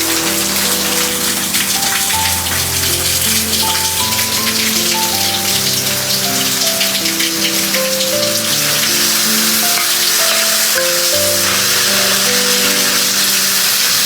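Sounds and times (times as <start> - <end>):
soft background music: 0.0 - 14.0
steady rain falling: 0.0 - 14.0.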